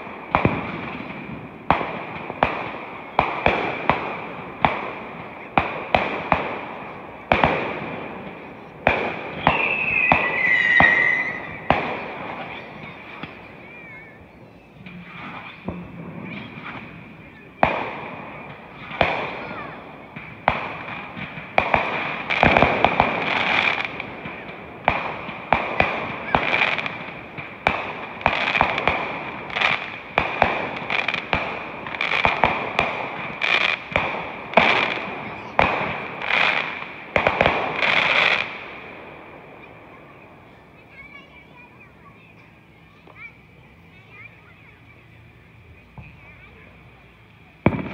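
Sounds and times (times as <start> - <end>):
fireworks bangs echoing: 0.0 - 44.4, 45.8 - 47.9.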